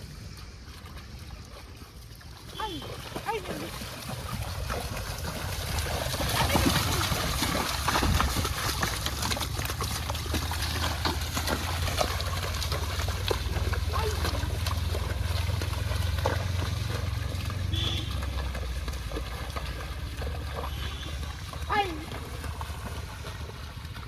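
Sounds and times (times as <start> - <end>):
water trickling and splashing: 0.0 - 24.0.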